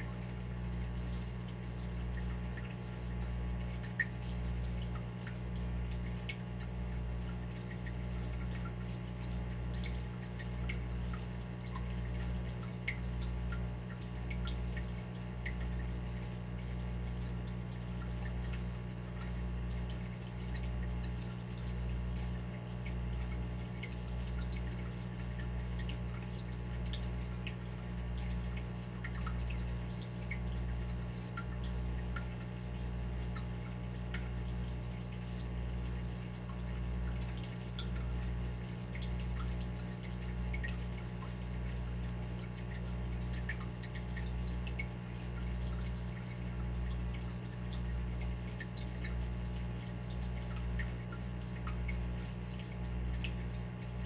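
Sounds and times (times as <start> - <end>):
water dripping and trickling: 0.0 - 54.0.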